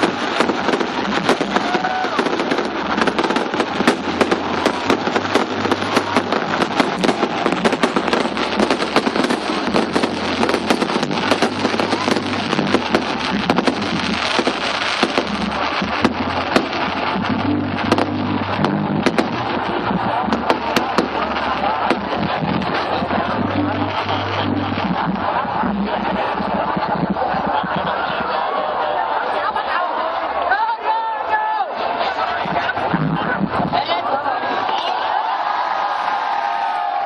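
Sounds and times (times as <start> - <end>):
fireworks popping and banging: 0.0 - 28.5, 32.2 - 34.9.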